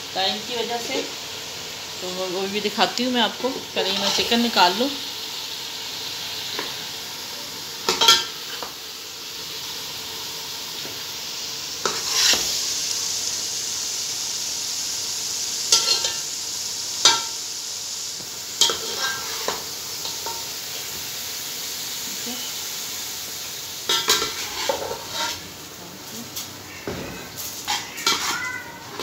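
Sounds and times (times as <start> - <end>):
gravy sizzling: 0.0 - 29.0.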